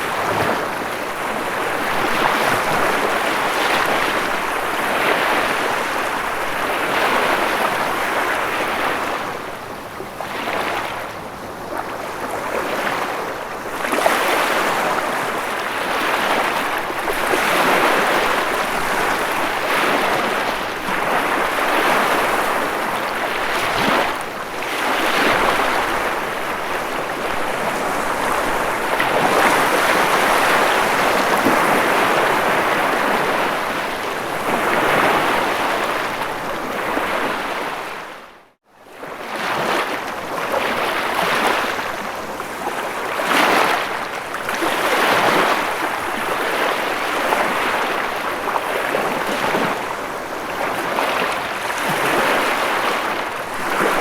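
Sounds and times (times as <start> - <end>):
ocean waves breaking: 0.0 - 38.4, 39.0 - 54.0.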